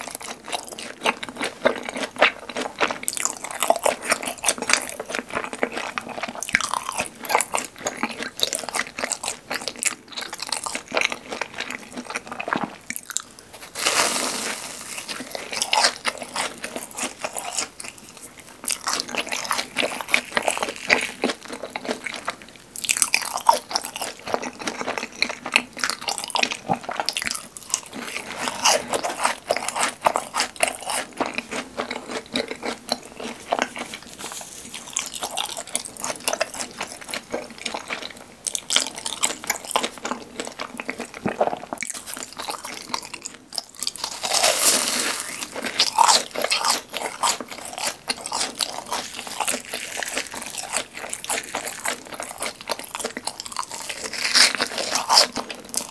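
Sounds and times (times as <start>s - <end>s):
crunching fried food: 0.0s - 55.9s
wet crackly chewing: 0.0s - 55.9s.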